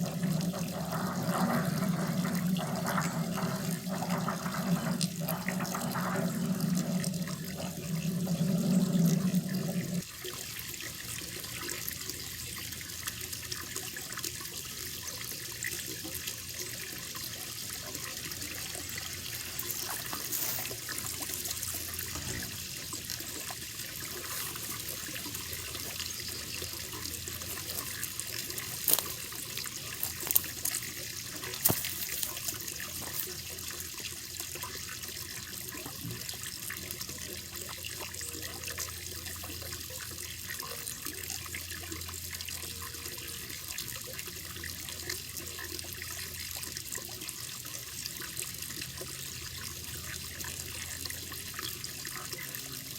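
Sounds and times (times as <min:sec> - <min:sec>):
water trickling into pond: 0:00.0 - 0:52.9.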